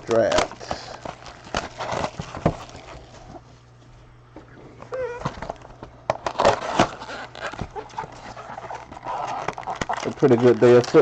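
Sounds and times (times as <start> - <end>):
plastic wrap crinkling and tearing: 0.1 - 3.4, 5.2 - 11.0.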